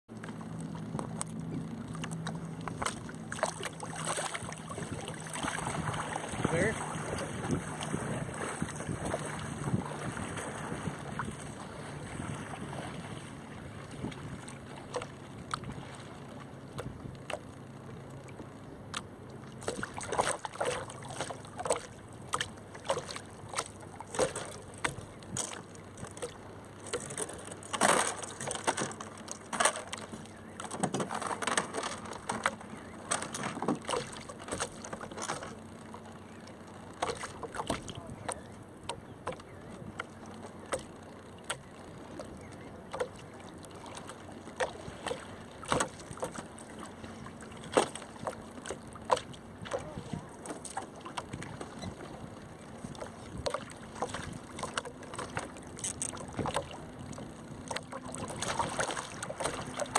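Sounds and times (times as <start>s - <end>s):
water lapping and splashing: 0.1s - 59.9s.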